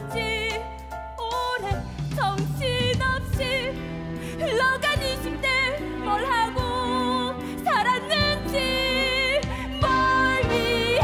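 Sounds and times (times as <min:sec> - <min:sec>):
woman singing a ballad: 0:00.0 - 0:11.0.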